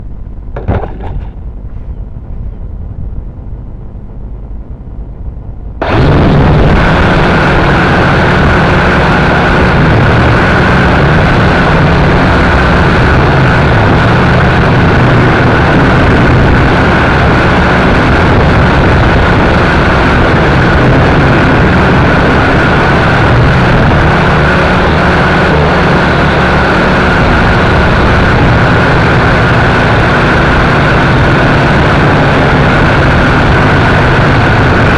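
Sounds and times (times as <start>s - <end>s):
wind noise: 0.0s - 34.9s.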